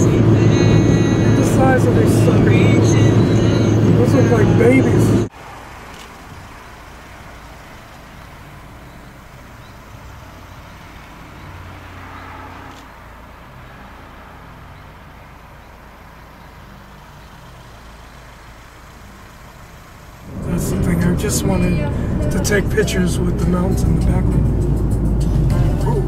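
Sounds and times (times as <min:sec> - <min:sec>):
distant road traffic: 0:00.0 - 0:26.0
vehicle passing: 0:00.0 - 0:26.0.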